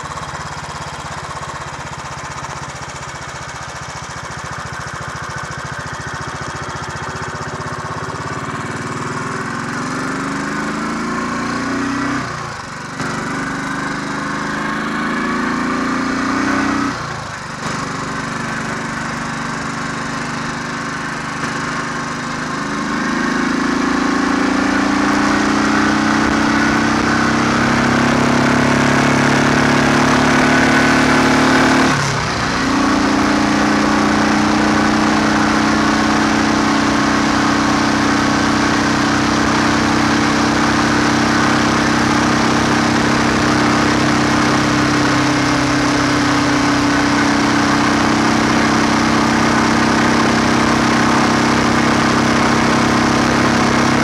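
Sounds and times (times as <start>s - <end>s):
motorcycle engine under way: 0.0s - 54.0s.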